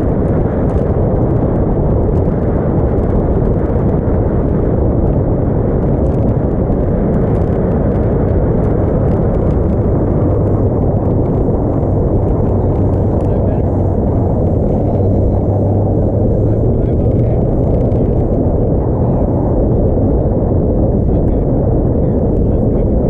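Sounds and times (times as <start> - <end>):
low engine hum: 0.0 - 23.0
water against hull: 0.0 - 23.0
wind on microphone: 0.0 - 23.0.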